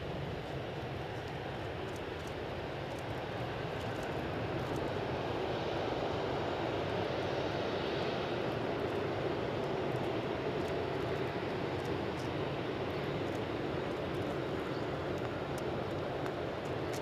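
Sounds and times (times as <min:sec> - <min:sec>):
jet airliner engines rumbling: 0:00.0 - 0:17.0.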